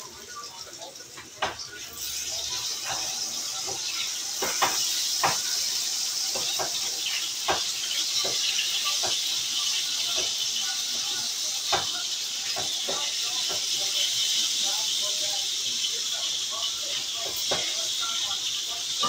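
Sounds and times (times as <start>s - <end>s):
patties sizzling in a frying pan: 0.0s - 19.0s.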